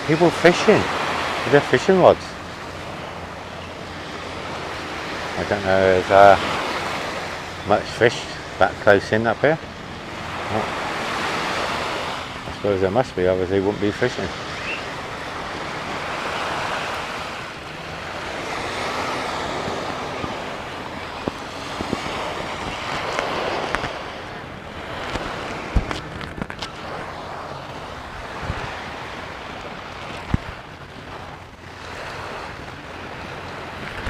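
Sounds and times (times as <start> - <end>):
surf washing onto beach: 0.0 - 34.0.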